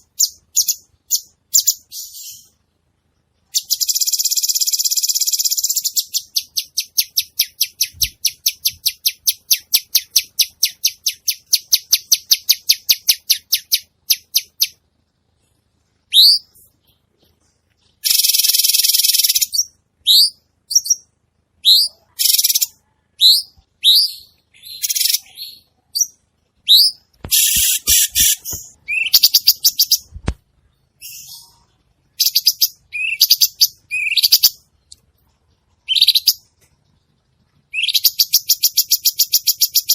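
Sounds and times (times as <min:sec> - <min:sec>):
songbird singing: 0:00.0 - 0:02.6, 0:03.5 - 0:14.8, 0:16.0 - 0:39.9.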